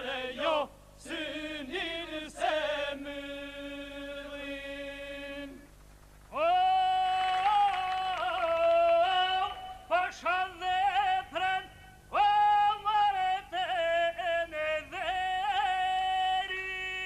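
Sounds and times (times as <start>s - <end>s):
man singing unaccompanied: 0.0s - 5.7s, 6.4s - 17.0s.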